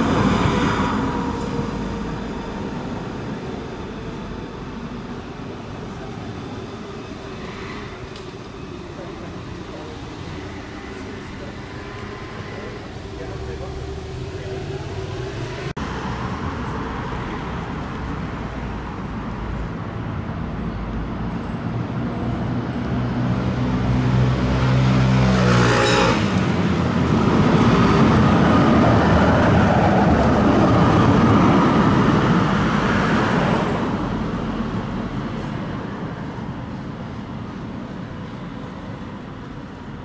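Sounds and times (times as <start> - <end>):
road traffic: 0.0 - 40.0
tram running past: 0.0 - 40.0.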